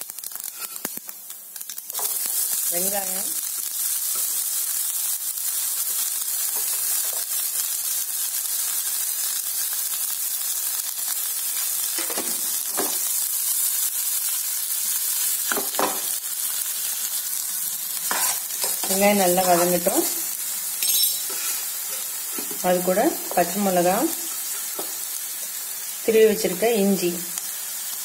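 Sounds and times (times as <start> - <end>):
onions sizzling in a pan: 0.0 - 28.0.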